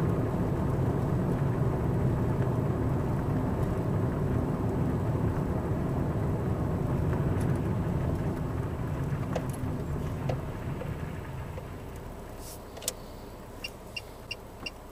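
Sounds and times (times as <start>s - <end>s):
car running and road noise: 0.0s - 14.9s.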